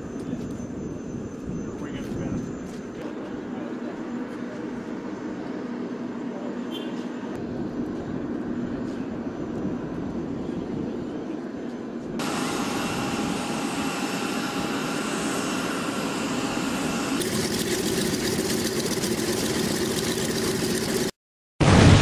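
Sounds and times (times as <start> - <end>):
aircraft engine noise: 0.0 - 22.0.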